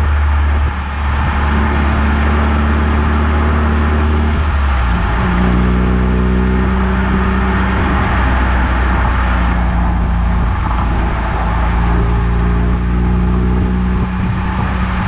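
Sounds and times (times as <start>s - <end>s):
car engine running: 0.0s - 15.0s
tyre and road noise: 0.0s - 15.0s.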